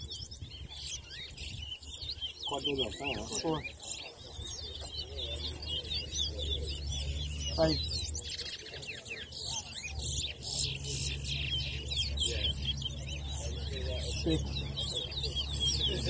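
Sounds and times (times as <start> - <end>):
finches chirping and warbling: 0.0 - 16.0.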